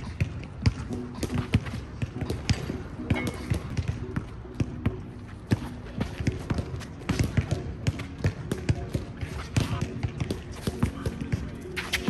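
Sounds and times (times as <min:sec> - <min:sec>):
basketball bouncing on hard court: 0:00.0 - 0:11.5.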